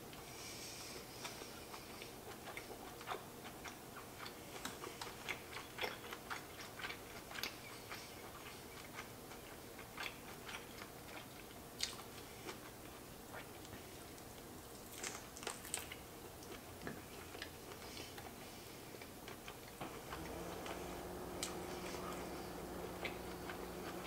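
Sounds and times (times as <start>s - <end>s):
person chewing: 1.2s - 24.0s.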